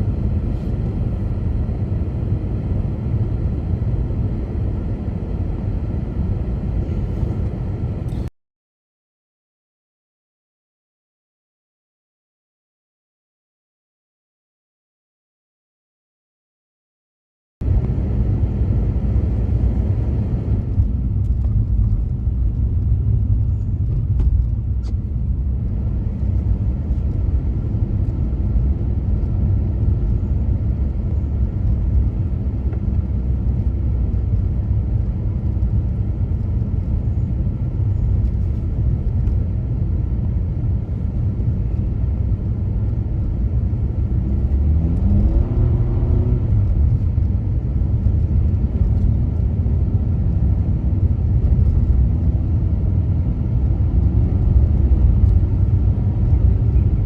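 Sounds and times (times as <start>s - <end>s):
car engine and tyres rumbling: 0.0s - 8.3s, 17.6s - 57.0s.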